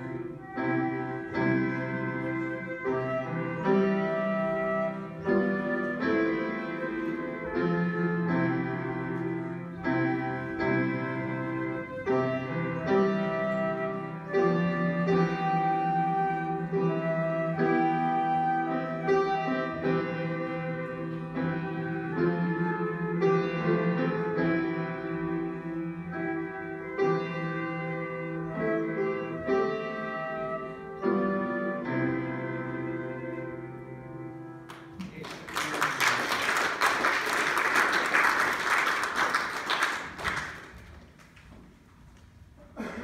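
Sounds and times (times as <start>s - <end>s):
flute holding long notes: 0.0s - 34.5s
piano chords: 0.0s - 41.8s.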